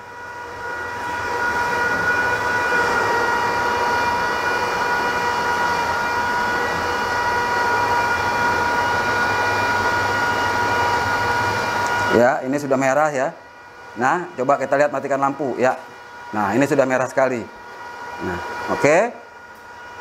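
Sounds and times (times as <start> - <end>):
induction heater whine: 0.0 - 20.0.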